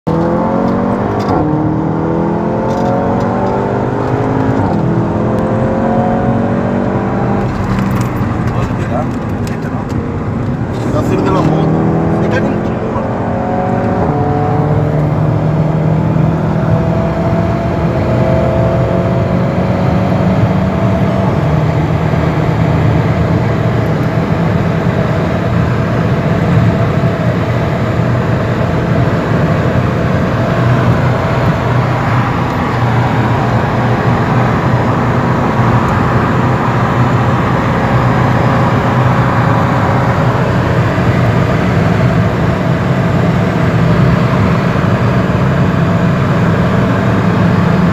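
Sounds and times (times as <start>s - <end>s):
car engine running: 0.1s - 47.9s
tyre and road noise: 0.1s - 47.9s.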